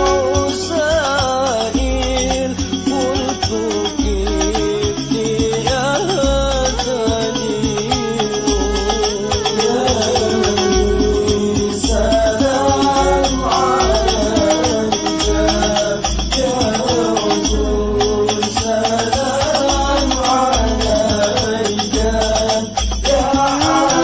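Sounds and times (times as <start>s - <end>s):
deep drum beat: 0.0s - 24.0s
frame drums with jingles: 0.0s - 24.0s
men singing into microphones: 0.0s - 24.0s.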